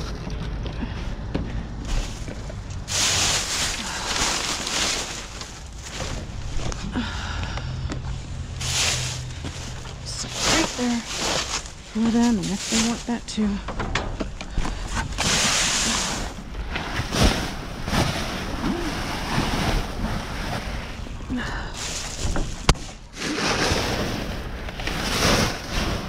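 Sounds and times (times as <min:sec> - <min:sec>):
rummaging through trash: 0:00.0 - 0:26.0.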